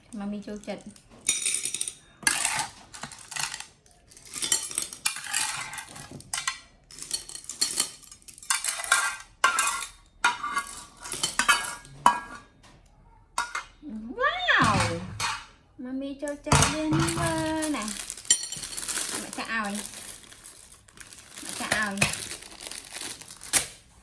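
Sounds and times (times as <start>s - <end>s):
clattering and clinking: 0.7s - 12.8s, 13.4s - 13.8s, 14.6s - 15.6s, 16.4s - 22.5s.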